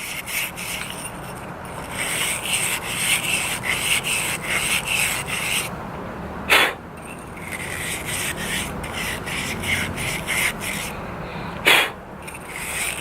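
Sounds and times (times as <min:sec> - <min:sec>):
rhythmic rubbing strokes: 0:00.0 - 0:13.0.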